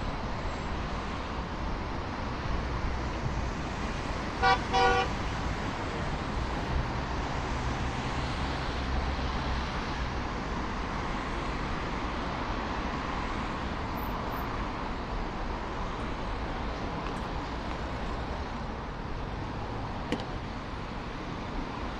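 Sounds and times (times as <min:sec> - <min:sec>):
city road traffic: 0:00.0 - 0:21.9.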